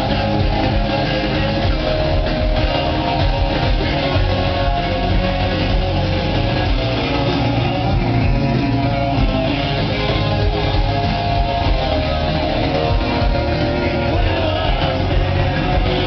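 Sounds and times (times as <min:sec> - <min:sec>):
live rock band playing: 0:00.0 - 0:16.0
strummed electric guitar: 0:00.0 - 0:16.0.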